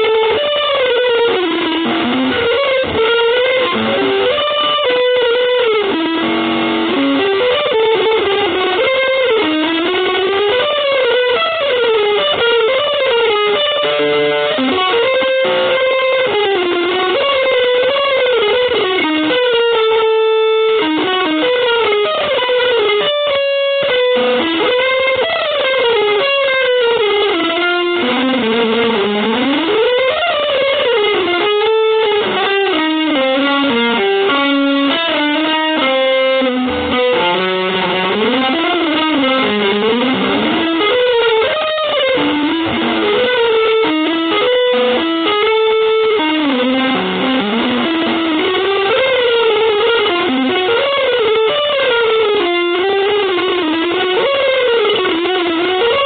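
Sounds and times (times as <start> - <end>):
electric guitar single-note lines: 0.0 - 56.0.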